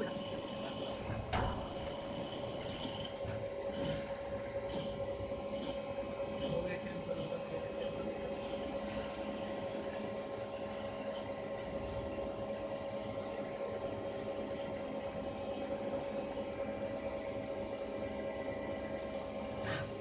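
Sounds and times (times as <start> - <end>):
lathe humming: 0.0 - 20.0.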